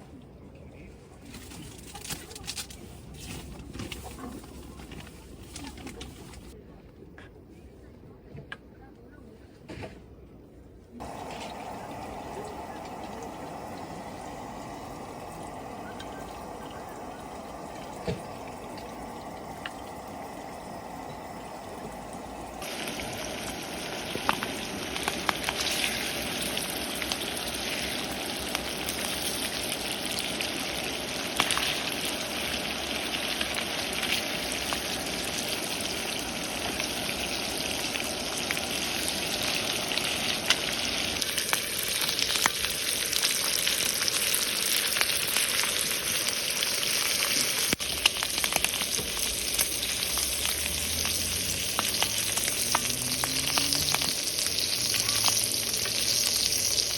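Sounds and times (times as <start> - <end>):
food sizzling in a pan: 11.0 - 56.9
oil popping and crackling: 11.0 - 56.9.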